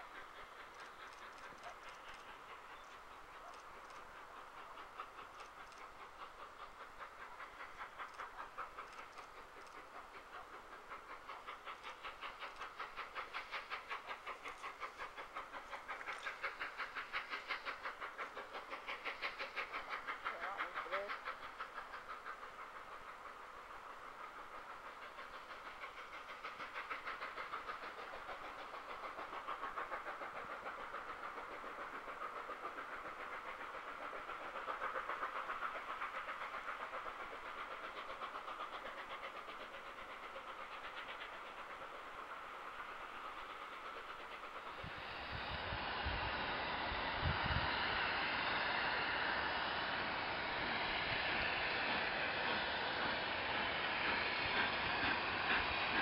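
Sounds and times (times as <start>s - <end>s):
train wheels clattering over rail joints: 0.0s - 45.2s
distant steam train: 0.0s - 56.0s.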